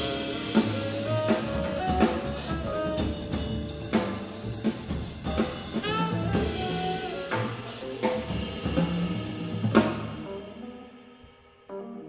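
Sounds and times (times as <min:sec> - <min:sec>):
tenor saxophone melody: 0:00.0 - 0:04.5, 0:05.4 - 0:10.8
bass line: 0:00.0 - 0:10.8
drum kit strikes: 0:00.0 - 0:11.4.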